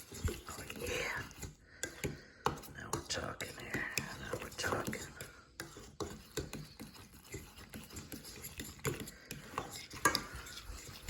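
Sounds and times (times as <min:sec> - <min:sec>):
spoon stirring mashed potatoes: 0:00.0 - 0:11.0
spoon tapping and scraping container: 0:00.0 - 0:11.0.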